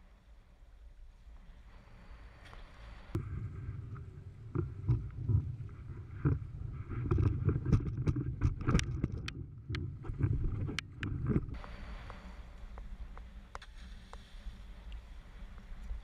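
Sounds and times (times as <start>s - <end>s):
wind rumble: 0.0s - 16.0s.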